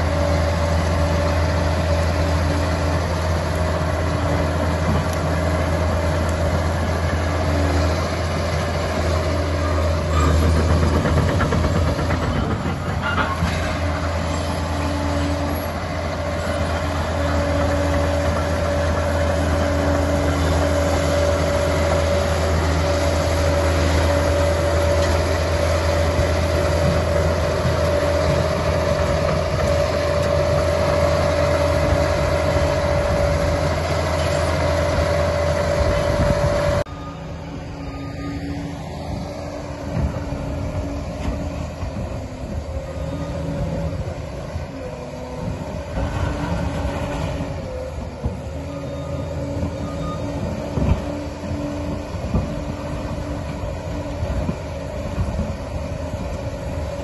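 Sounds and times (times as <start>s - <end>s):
dozer diesel engine under load: 0.0s - 57.0s
steel tracks clanking: 4.5s - 57.0s.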